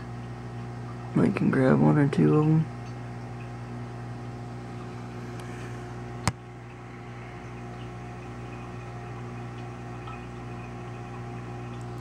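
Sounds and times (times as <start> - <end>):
aquarium equipment hum: 0.0 - 12.0.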